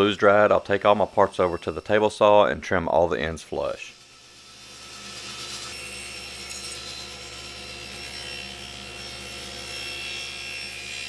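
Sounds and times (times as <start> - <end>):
table saw cutting wood: 0.0 - 2.5, 3.5 - 11.0.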